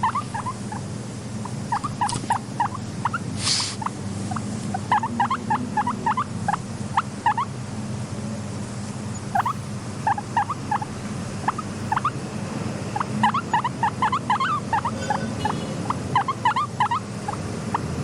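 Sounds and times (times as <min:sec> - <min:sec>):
guinea pig squeaking: 0:00.0 - 0:07.6, 0:09.1 - 0:12.2, 0:12.9 - 0:18.0.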